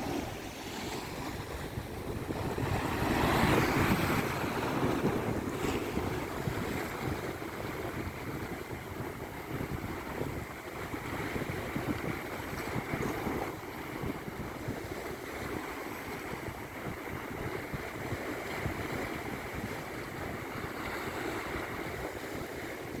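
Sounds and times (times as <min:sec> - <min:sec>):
surf washing onto sand: 0:00.0 - 0:23.0
wind buffeting microphone: 0:00.0 - 0:23.0.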